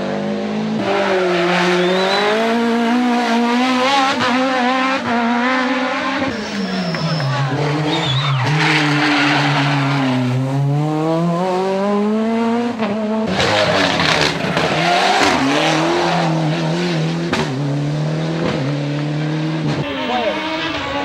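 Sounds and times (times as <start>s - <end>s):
rally car engine accelerating: 0.0s - 21.0s.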